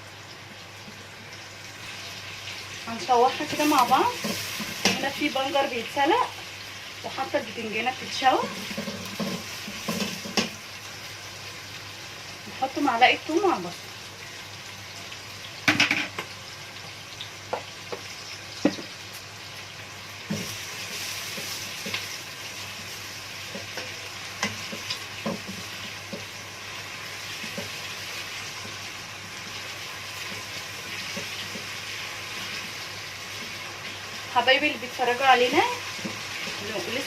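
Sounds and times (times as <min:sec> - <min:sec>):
onions sizzling in pot: 0:00.0 - 0:37.0.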